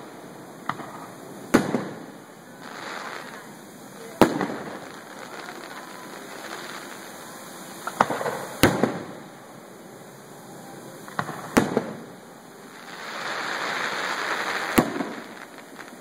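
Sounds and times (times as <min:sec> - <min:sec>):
fireworks booming: 0:00.0 - 0:10.1, 0:10.7 - 0:16.0
fireworks hiss: 0:00.0 - 0:16.0.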